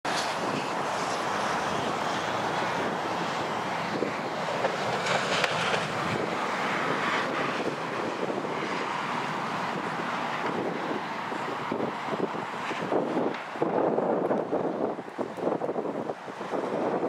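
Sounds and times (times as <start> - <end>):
highway traffic rushing: 0.0 - 17.0
wind buffeting microphone: 0.1 - 17.0.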